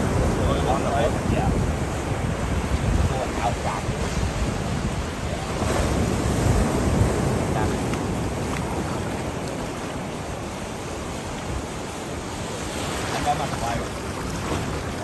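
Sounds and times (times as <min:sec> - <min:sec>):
ocean surf washing up beach: 0:00.0 - 0:15.0
wind buffeting microphone: 0:00.0 - 0:15.0.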